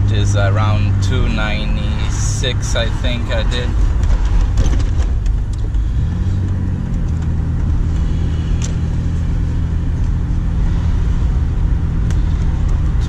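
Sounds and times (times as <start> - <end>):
road noise: 0.0 - 13.0
truck engine hum: 0.0 - 13.0.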